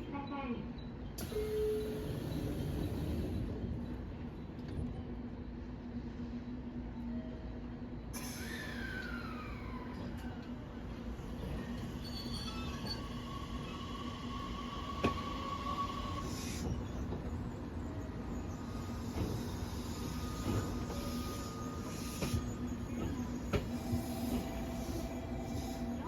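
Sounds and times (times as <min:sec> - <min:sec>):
train rumbling: 0:00.7 - 0:26.0.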